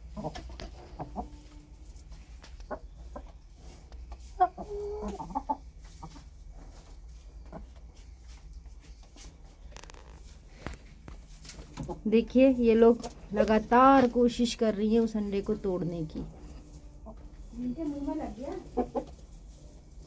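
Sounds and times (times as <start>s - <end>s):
hens clucking: 0.0s - 10.4s, 11.1s - 19.6s.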